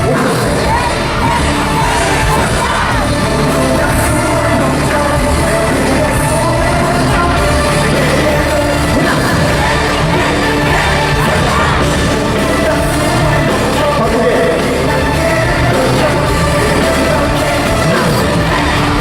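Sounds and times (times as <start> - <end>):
audience yelling along: 0.0 - 19.0
loud pop backing track: 0.0 - 19.0
person singing: 0.0 - 19.0.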